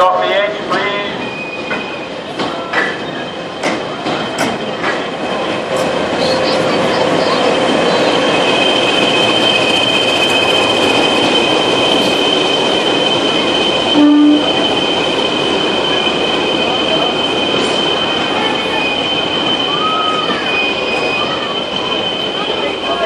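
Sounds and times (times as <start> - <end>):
train rolling: 0.0 - 23.0
wheels and brakes squealing: 1.0 - 4.7, 6.2 - 23.0.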